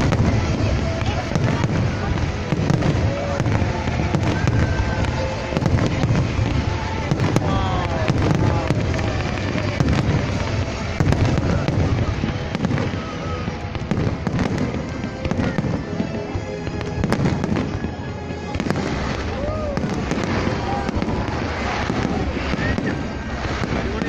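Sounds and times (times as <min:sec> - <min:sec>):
fireworks booming and cracking: 0:00.0 - 0:24.0.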